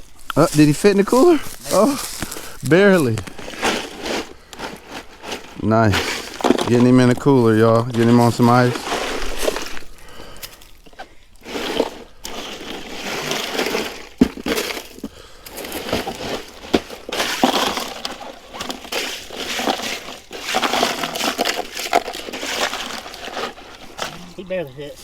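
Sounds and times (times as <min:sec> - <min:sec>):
ice clinking and crunching: 0:00.0 - 0:25.0
scraping: 0:00.0 - 0:25.0.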